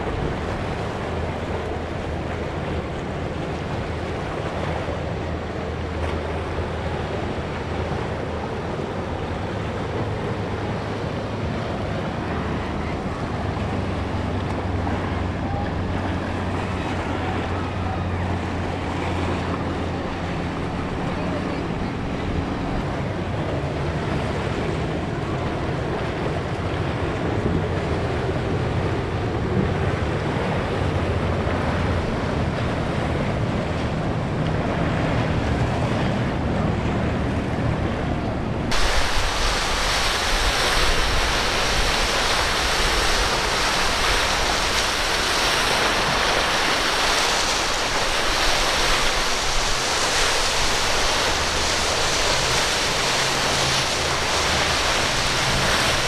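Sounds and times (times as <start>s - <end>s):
waves and surf rushing: 0.0s - 56.0s
wind buffeting microphone: 0.0s - 56.0s.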